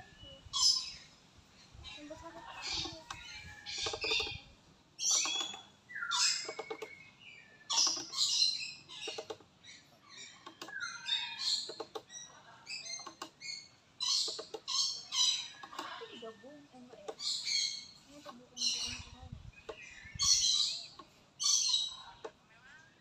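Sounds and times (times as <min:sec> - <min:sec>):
birds making harsh calls: 0:00.5 - 0:22.4.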